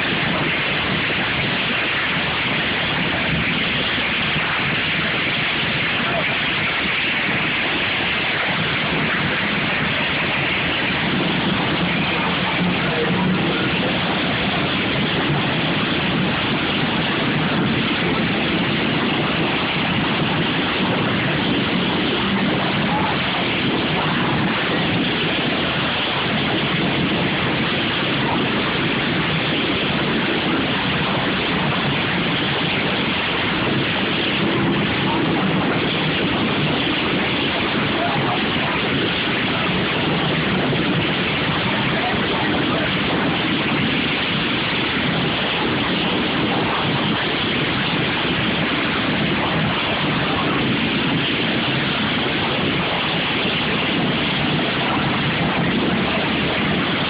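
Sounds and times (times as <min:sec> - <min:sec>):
lawn mower engines running: 0:00.0 - 0:47.6
crowd voices: 0:00.0 - 0:57.0.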